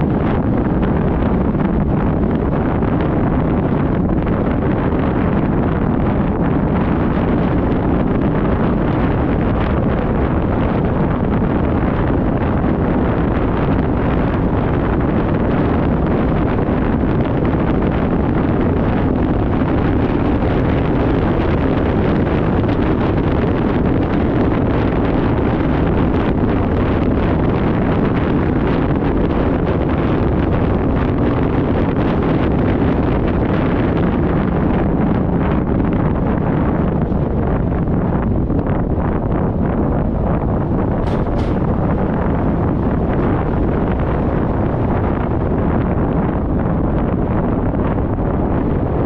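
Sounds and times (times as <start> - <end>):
low rumble: 0.0 - 49.0
wind buffeting microphone: 0.0 - 49.0.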